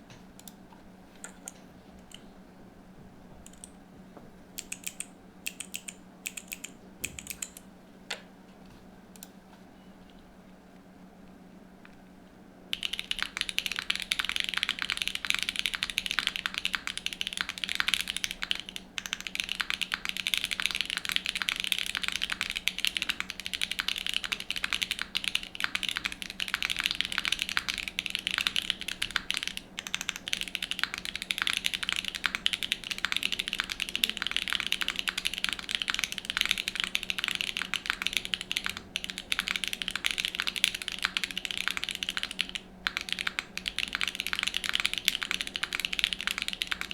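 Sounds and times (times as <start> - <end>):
mechanical keyboard typing: 3.5 - 3.8, 4.6 - 7.7, 12.7 - 46.9.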